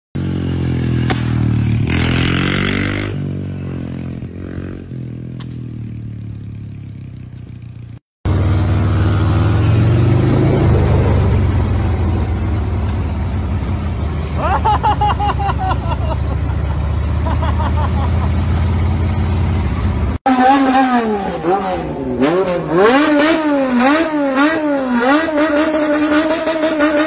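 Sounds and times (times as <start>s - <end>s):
motorcycle engines revving: 0.2s - 27.0s.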